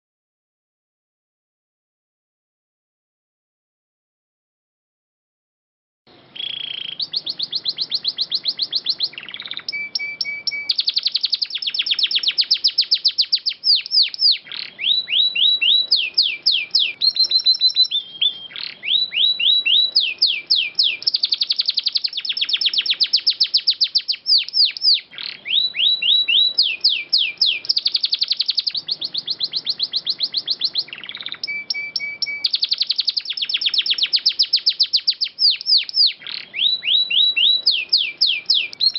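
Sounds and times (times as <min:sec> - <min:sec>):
canary singing trills: 0:06.2 - 0:38.9.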